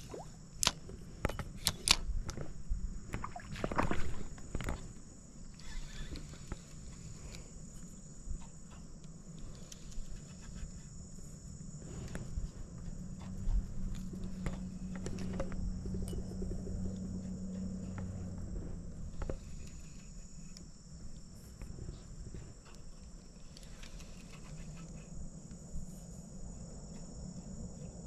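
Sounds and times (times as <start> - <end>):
high-pitched insect drone: 3.2 - 28.0.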